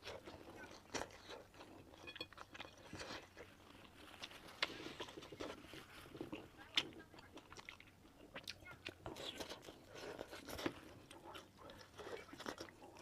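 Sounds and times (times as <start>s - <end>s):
person chewing and eating: 0.0s - 13.0s.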